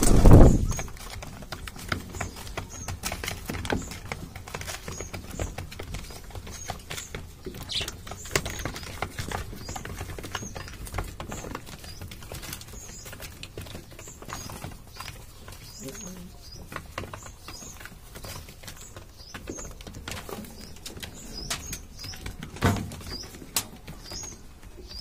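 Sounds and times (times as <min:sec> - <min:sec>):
beaks tapping on plastic feeder: 0:01.1 - 0:25.0.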